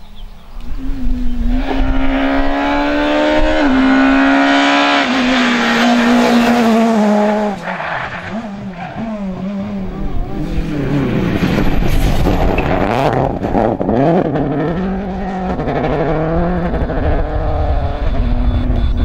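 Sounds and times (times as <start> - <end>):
rally car engine revving: 0.7 - 19.0.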